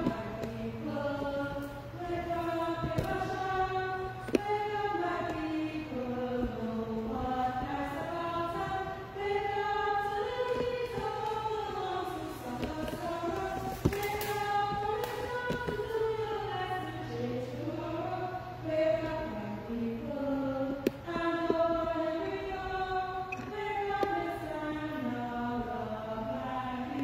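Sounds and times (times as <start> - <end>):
steady low hum: 0.0 - 27.0
voices singing a hymn: 0.0 - 27.0.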